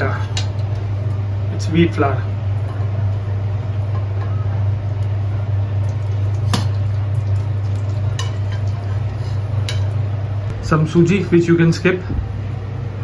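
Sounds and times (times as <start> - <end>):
flour sizzling in fat: 0.0 - 10.5
steady low hum: 0.0 - 13.0.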